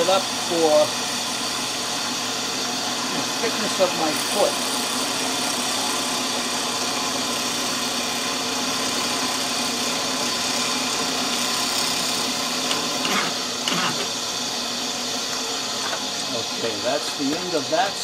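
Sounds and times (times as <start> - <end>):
milling machine cutting wood: 0.0 - 18.0.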